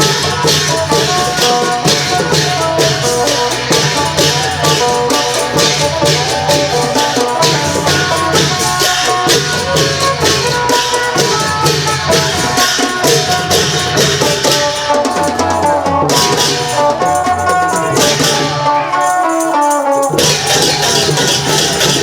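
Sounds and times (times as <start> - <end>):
cymbals: 0.0 - 22.0
long drums beating: 0.0 - 22.0
lute picking a melody: 0.0 - 22.0.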